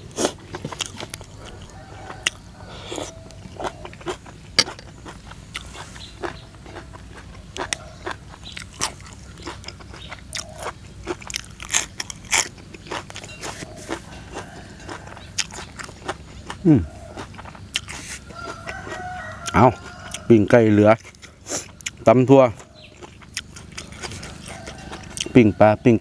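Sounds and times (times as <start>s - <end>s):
chewing crunchy food: 0.0s - 26.0s.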